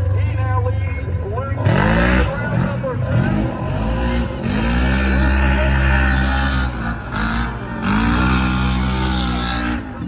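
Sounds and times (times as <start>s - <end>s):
utv engines revving at high revs: 0.0s - 10.0s.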